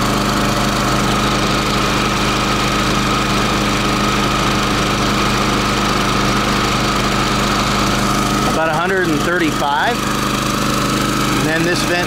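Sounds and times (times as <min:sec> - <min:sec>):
generator running: 0:00.0 - 0:12.0.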